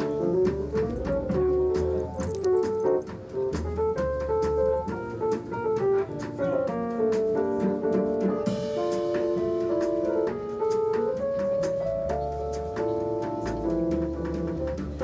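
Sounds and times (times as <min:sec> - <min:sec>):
jazz with drums and piano: 0:00.0 - 0:15.0.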